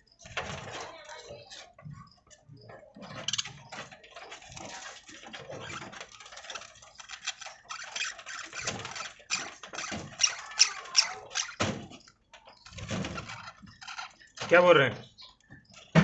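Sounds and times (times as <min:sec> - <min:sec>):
budgerigars chirping and chattering: 0:01.5 - 0:16.0.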